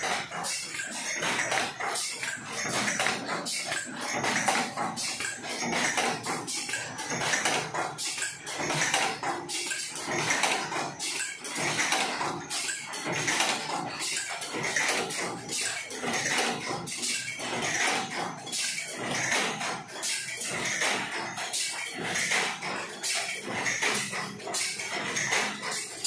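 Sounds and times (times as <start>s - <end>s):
machines clattering: 0.0s - 26.0s.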